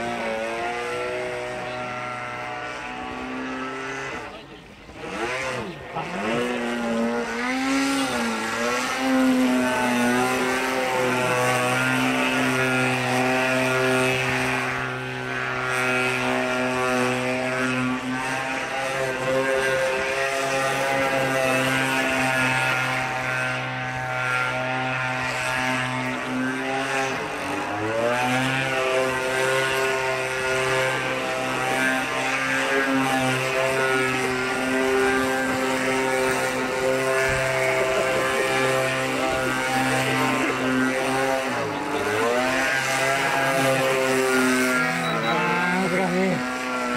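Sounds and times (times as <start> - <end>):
model airplane engine droning: 0.0 - 46.9.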